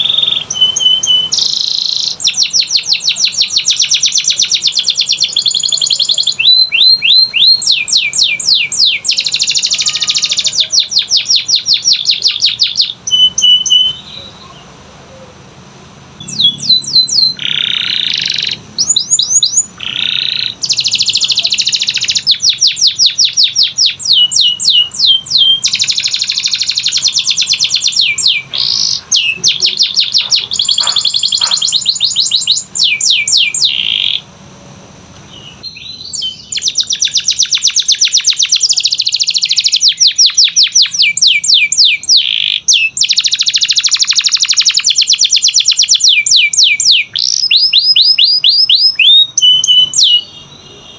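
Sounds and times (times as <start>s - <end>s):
canary singing trills: 0.0s - 15.6s, 16.2s - 34.3s, 35.2s - 50.9s.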